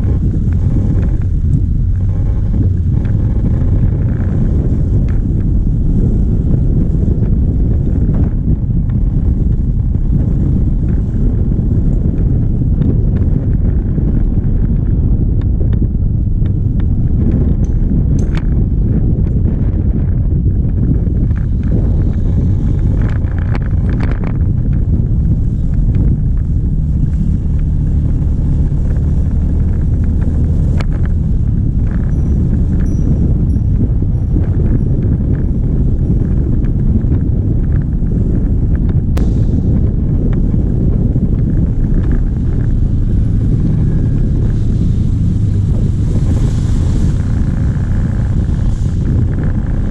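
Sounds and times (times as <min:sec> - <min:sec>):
motor vehicle rumble: 0:00.0 - 0:49.9
wind buffeting microphone: 0:00.0 - 0:49.9.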